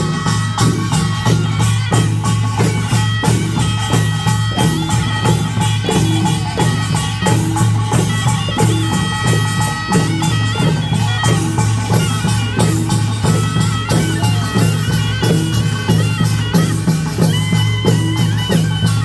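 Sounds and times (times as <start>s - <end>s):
heavy low drumming: 0.0s - 19.0s
small gongs and drums beating: 0.0s - 19.0s.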